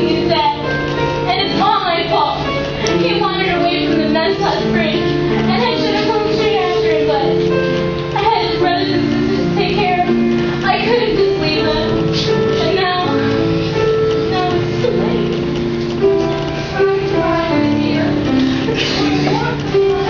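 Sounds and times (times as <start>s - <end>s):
instrumental accompaniment: 0.0s - 20.0s.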